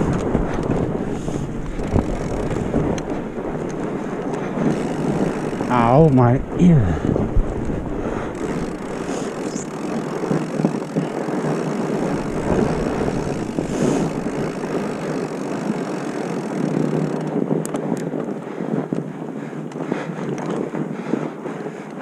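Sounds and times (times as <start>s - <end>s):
bike rumbling down dirt trail: 0.0s - 22.0s
wind noise on microphone: 0.0s - 22.0s.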